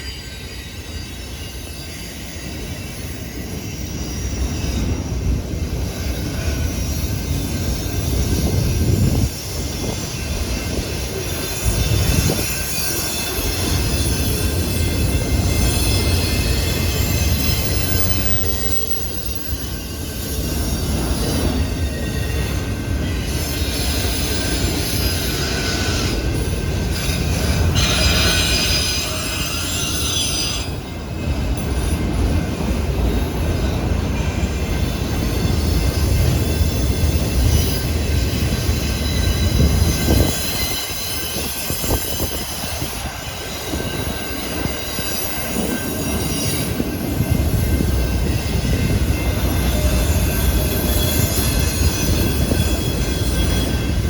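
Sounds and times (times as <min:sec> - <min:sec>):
train rumble: 0:00.0 - 0:54.0
train wheels squealing on rails: 0:00.0 - 0:54.0.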